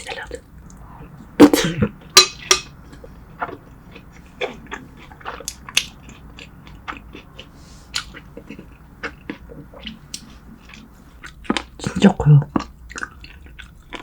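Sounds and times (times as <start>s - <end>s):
person chewing food: 0.1s - 14.0s.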